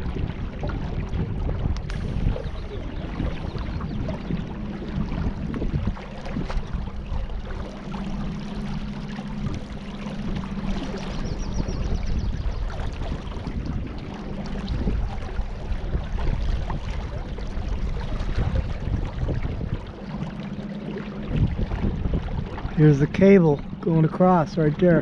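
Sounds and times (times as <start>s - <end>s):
low steady hum: 0.0s - 25.0s
water lapping around boat: 0.0s - 25.0s
wind buffeting microphone: 0.0s - 25.0s.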